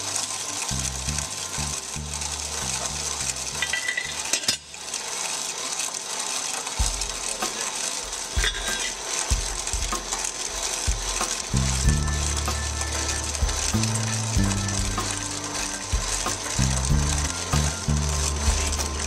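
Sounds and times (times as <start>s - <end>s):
grinding balls rattling: 0.0s - 19.0s.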